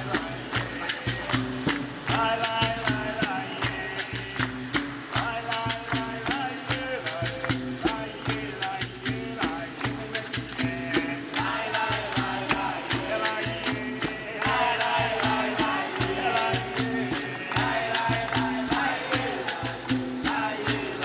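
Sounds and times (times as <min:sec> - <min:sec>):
group singing together: 0:00.0 - 0:21.0
hand percussion strikes: 0:00.0 - 0:21.0.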